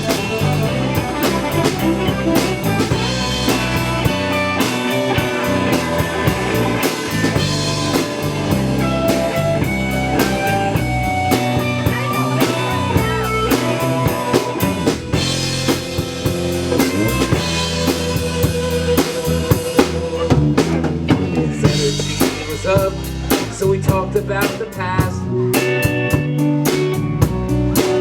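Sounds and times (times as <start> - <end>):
drum kit beat: 0.0 - 28.0
rock band playing: 0.0 - 28.0.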